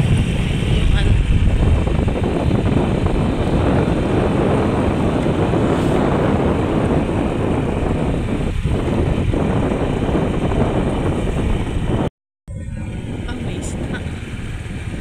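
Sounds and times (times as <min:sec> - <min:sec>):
motorcycle running: 0:00.0 - 0:15.0
wind on microphone: 0:00.0 - 0:15.0.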